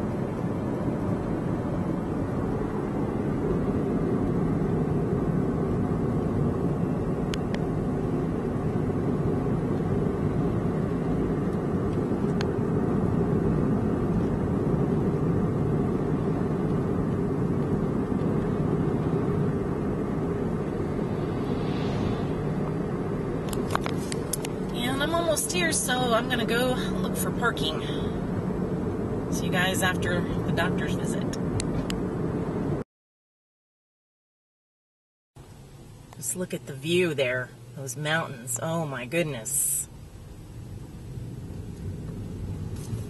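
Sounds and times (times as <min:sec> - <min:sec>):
car cabin road noise: 0:00.0 - 0:32.8, 0:35.4 - 0:43.0.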